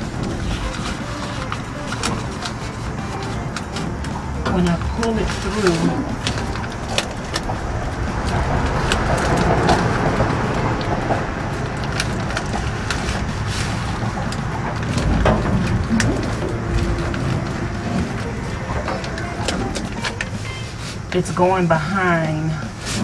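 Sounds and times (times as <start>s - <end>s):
foil tape crinkling and rustling: 0.0s - 21.0s.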